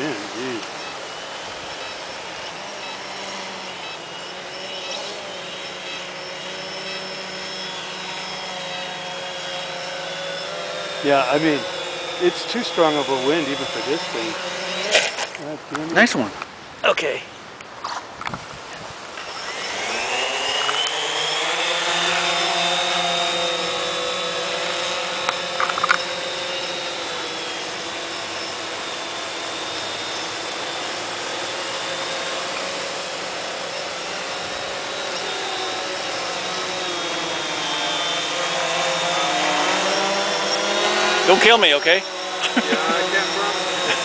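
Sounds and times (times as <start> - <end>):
drone motors whining: 0.0 - 16.3, 17.2 - 44.0.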